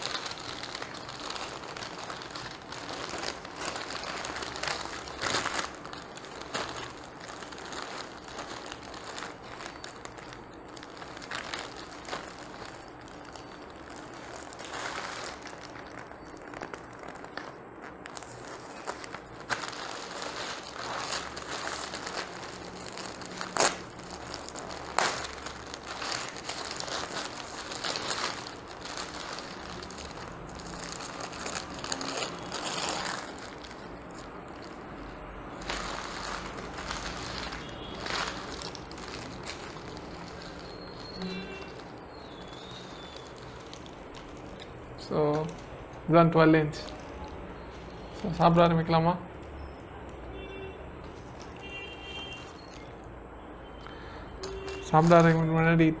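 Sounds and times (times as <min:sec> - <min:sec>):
paper wrapper crinkling: 0:00.0 - 0:49.0, 0:51.0 - 0:53.2, 0:53.8 - 0:55.9.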